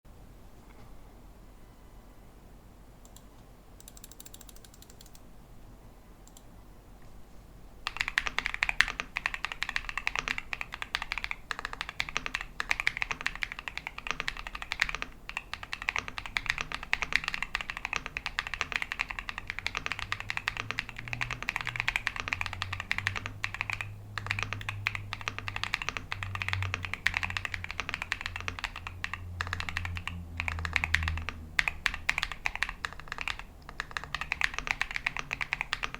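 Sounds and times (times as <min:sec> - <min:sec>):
mechanical keyboard typing: 0:03.0 - 0:05.2, 0:07.8 - 0:35.9.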